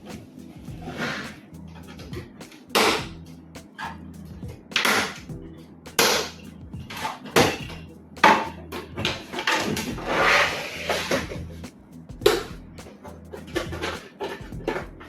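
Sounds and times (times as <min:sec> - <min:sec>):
low background music: 0:00.0 - 0:15.0.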